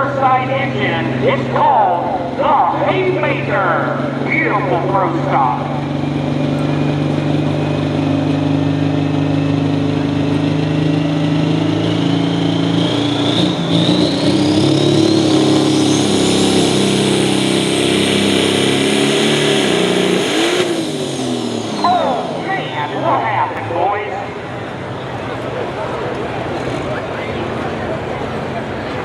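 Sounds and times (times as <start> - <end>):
diesel engine running hard: 0.0 - 29.0
high whine rising in pitch: 0.1 - 24.5.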